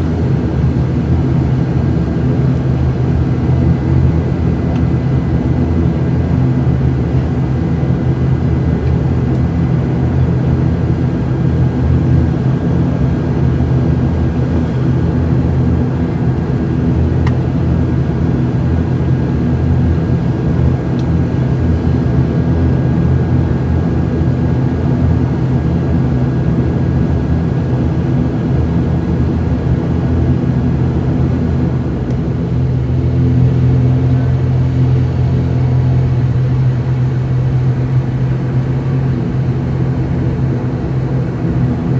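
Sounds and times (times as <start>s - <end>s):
turboprop engines droning in cabin: 0.0s - 41.9s.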